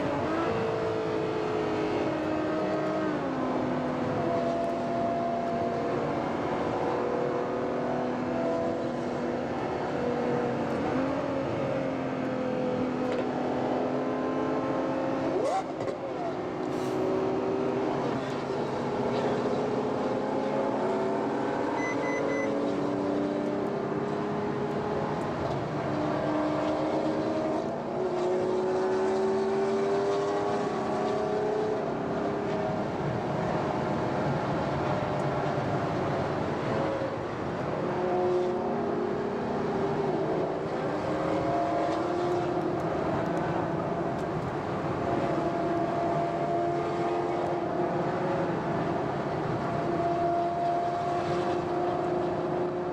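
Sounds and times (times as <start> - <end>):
car engine accelerating through gears: 0.0 - 52.9.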